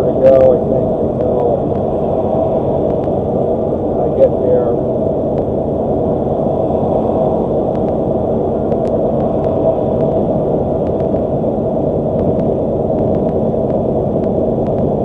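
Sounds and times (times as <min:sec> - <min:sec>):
road and engine noise in vehicle: 0:00.0 - 0:15.0.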